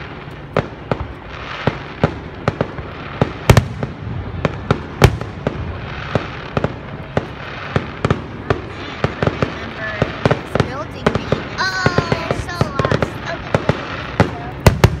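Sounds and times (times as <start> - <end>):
fireworks bangs and pops: 0.0 - 15.0
loud firework booms: 0.0 - 15.0.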